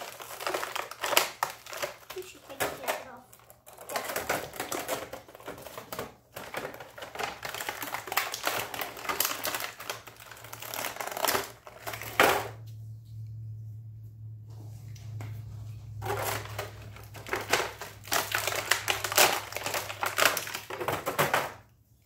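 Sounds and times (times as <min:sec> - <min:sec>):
plastic cracking: 0:00.0 - 0:12.6, 0:16.0 - 0:21.7
plastic packaging crackling: 0:00.0 - 0:12.6, 0:16.0 - 0:21.6.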